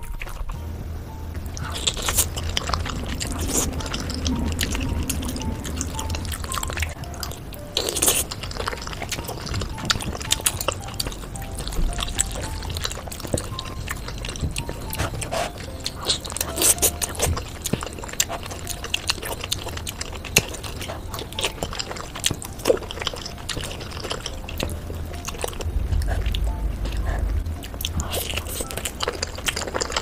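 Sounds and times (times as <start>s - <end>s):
slurping and chewing noodles: 1.4s - 30.0s.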